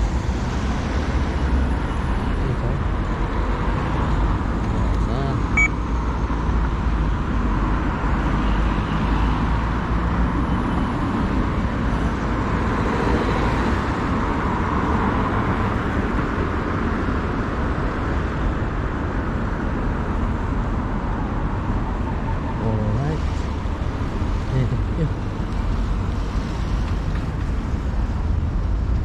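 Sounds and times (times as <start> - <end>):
cars passing on street: 0.0 - 29.0
low traffic rumble: 0.0 - 29.0.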